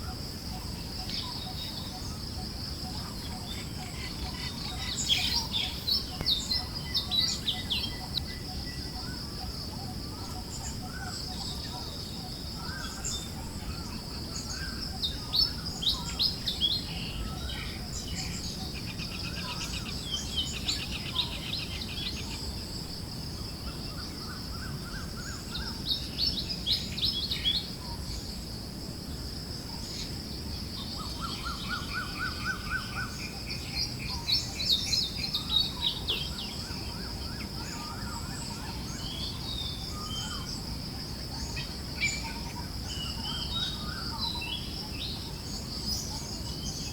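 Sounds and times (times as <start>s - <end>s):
birds chirping and trilling: 0.0s - 22.4s, 29.7s - 46.9s
soft wind-like noise: 0.0s - 46.9s.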